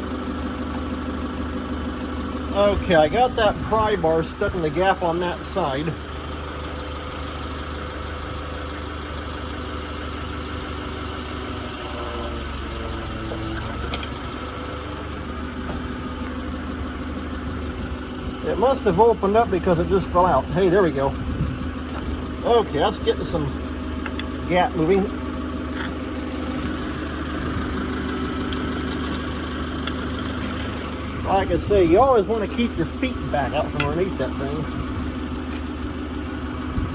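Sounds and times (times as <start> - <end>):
forklift engine idling: 0.0 - 36.9.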